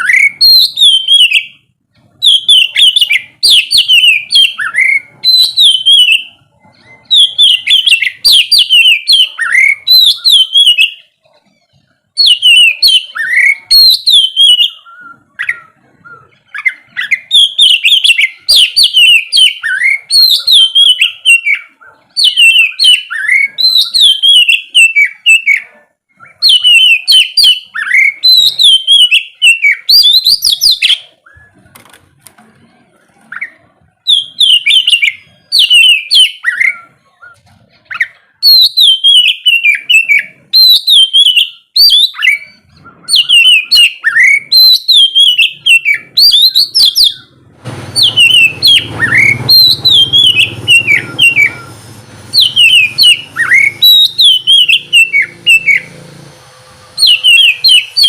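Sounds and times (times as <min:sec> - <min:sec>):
bird singing whistled phrases: 0:00.0 - 0:01.6, 0:02.2 - 0:11.2, 0:12.2 - 0:31.6, 0:33.4 - 0:47.3, 0:48.0 - 0:56.0, 0:57.0 - 0:58.0.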